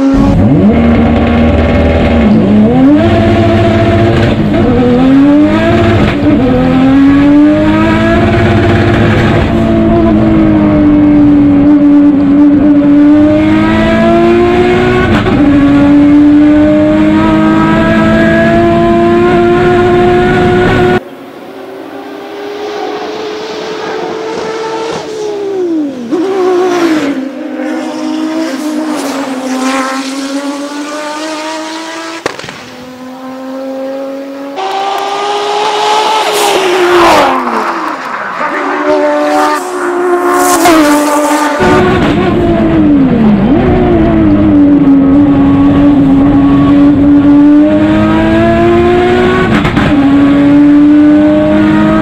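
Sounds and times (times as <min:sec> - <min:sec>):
car engine at full throttle: 0:00.0 - 0:52.0.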